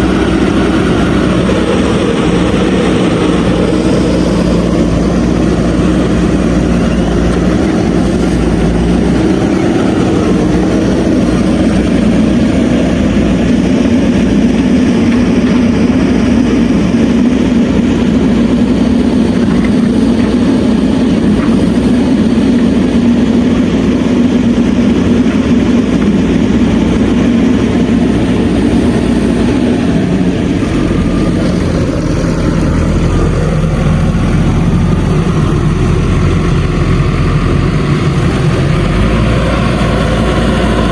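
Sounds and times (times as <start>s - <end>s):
diesel engine running loudly: 0.0s - 40.9s.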